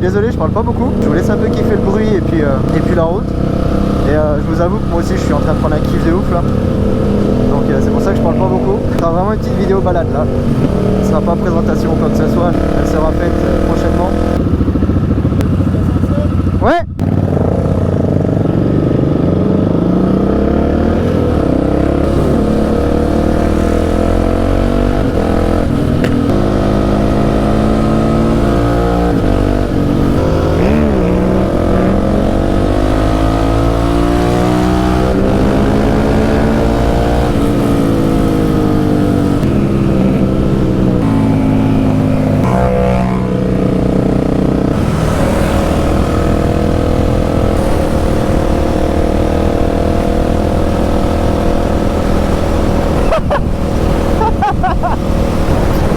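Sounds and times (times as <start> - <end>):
motorcycle engine shifting gears: 0.0 - 55.9.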